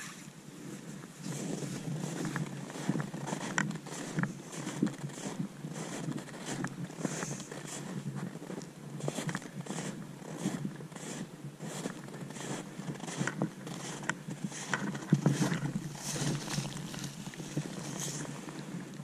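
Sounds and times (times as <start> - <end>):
boots crunching through snow: 1.2 - 18.9.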